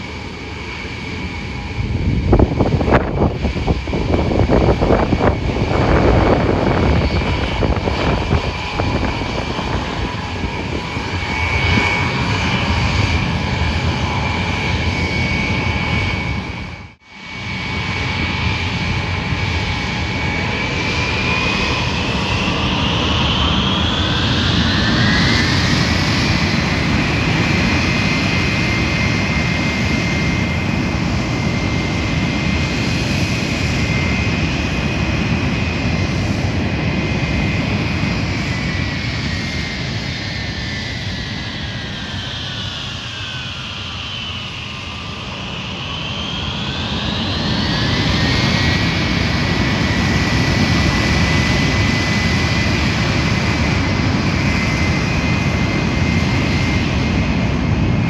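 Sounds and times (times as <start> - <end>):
jet engines whining and rumbling: 0.0 - 58.0.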